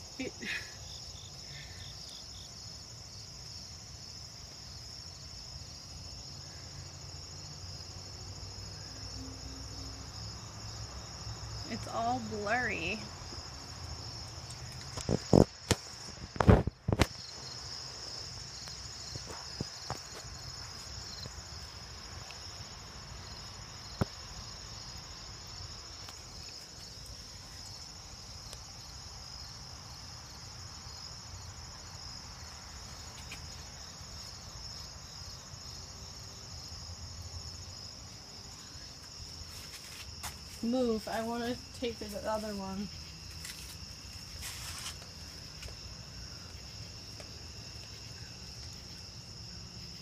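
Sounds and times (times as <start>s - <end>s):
crickets trilling: 0.0s - 50.0s.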